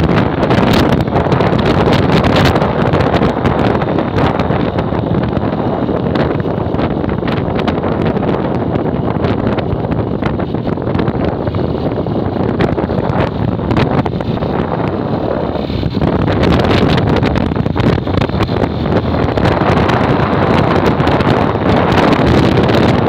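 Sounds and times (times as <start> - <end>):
vehicle engine and road noise: 0.0 - 23.0
wind buffeting microphone: 0.0 - 23.0.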